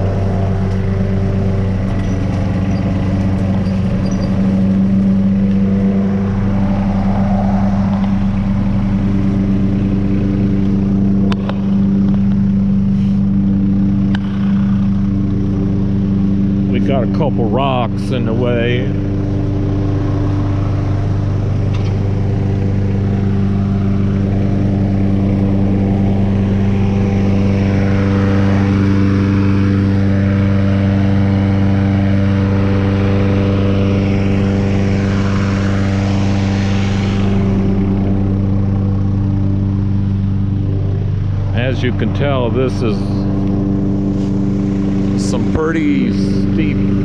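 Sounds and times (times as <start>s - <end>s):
tractor and lawnmower engines: 0.0s - 47.0s.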